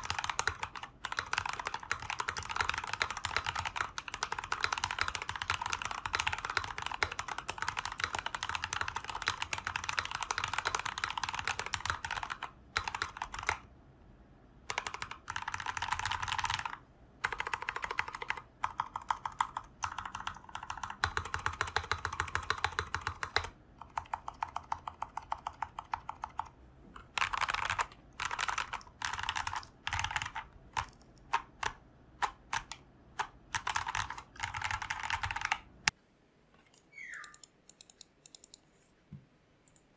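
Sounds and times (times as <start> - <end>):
mechanical keyboard typing: 0.0 - 13.7, 14.6 - 35.7, 37.1 - 38.6.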